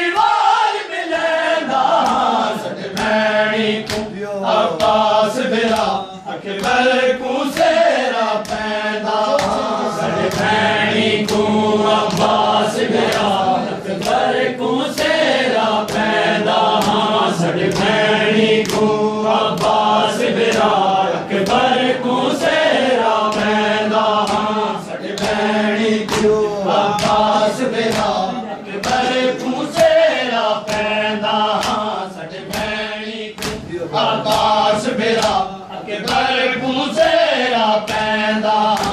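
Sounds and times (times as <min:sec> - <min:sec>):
men chanting together: 0:00.0 - 0:38.9.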